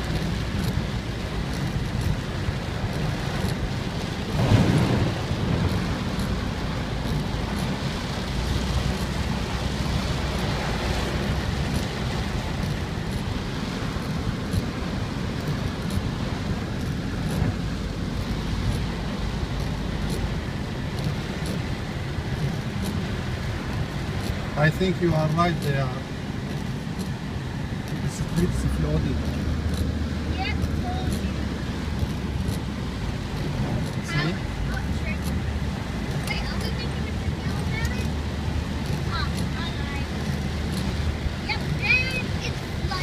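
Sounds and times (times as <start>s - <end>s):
heavy rain on a car: 0.0s - 43.0s
low rumble: 0.0s - 43.0s
road noise: 0.0s - 43.0s.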